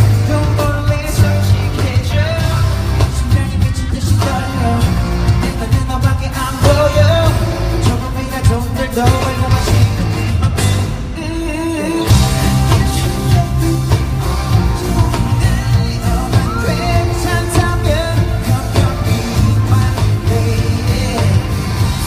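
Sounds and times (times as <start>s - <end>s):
heavy bass beat: 0.0s - 11.0s, 12.1s - 22.0s
man singing pop song: 0.0s - 22.0s.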